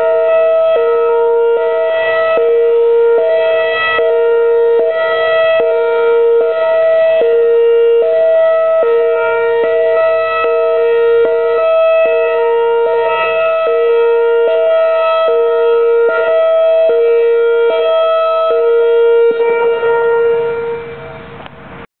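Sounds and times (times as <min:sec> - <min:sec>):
two-tone warning siren: 0:00.0 - 0:21.9.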